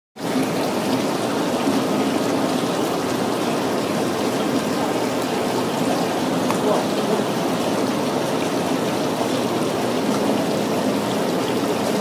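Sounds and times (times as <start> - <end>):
water rushing and splashing into tank: 0.2 - 12.0.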